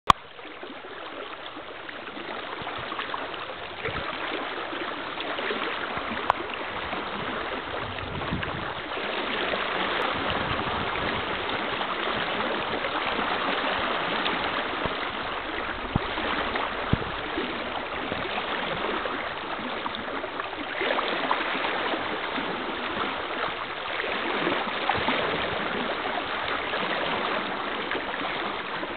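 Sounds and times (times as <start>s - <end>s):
river water flowing: 0.1s - 28.9s.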